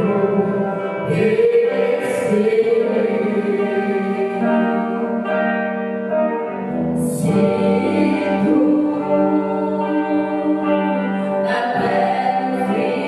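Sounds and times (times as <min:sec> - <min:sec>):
band holding sustained chords: 0:00.0 - 0:13.0.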